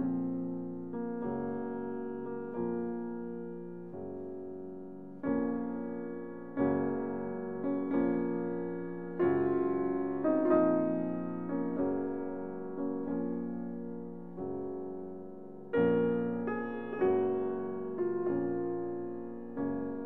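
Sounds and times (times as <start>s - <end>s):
slow keyboard chords: 0.0s - 20.0s.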